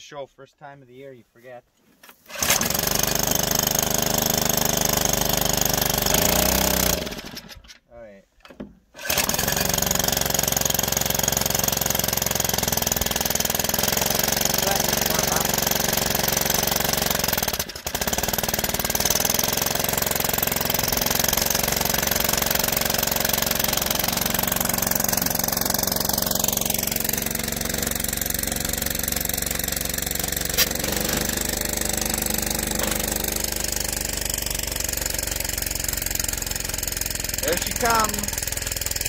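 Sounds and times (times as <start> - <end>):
small gasoline engine running: 2.3 - 7.7, 9.0 - 39.0.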